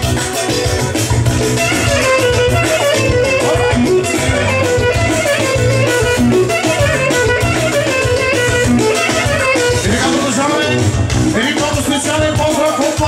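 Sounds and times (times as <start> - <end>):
clarinet melody: 0.0 - 10.8
live band music: 0.0 - 13.0.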